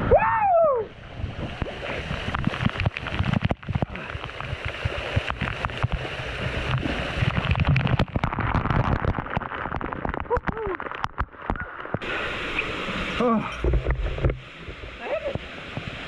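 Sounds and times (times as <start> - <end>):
rushing splashing water: 0.8 - 16.0.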